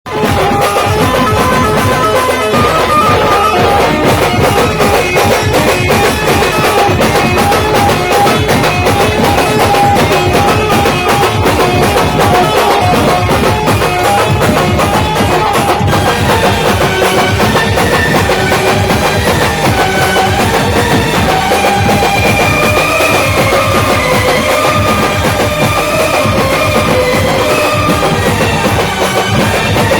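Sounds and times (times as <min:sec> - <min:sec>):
band melody: 0:00.1 - 0:29.9
fast drum beat: 0:00.1 - 0:29.9.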